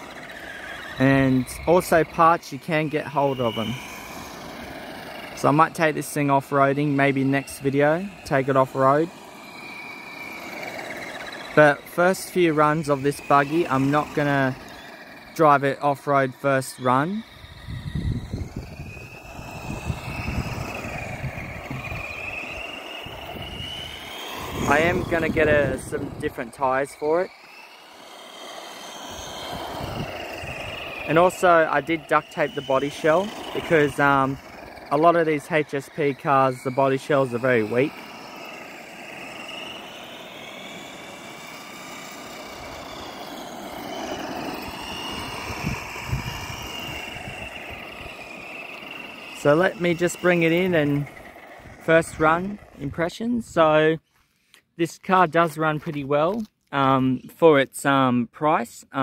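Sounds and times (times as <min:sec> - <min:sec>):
steady rushing noise: 0:00.0 - 0:54.0
electric motor whine: 0:00.0 - 0:54.3.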